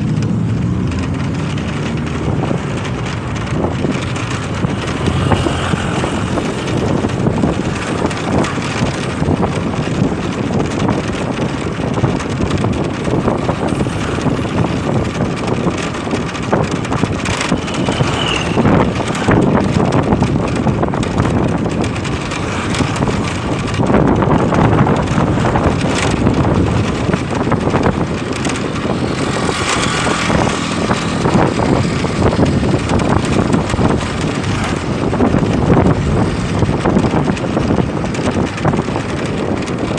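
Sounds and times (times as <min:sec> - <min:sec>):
motorcycle engine: 0:00.0 - 0:39.9
road noise: 0:00.0 - 0:39.9
wind rush over microphone: 0:00.0 - 0:39.9.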